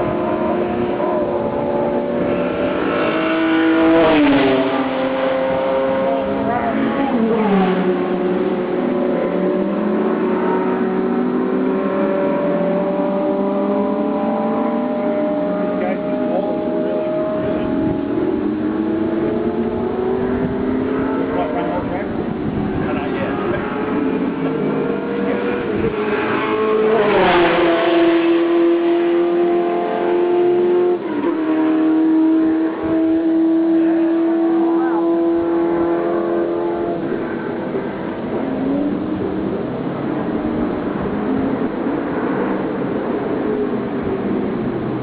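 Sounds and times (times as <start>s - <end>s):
race car engine passing: 0.0s - 45.0s
racing car engines running: 0.0s - 45.0s.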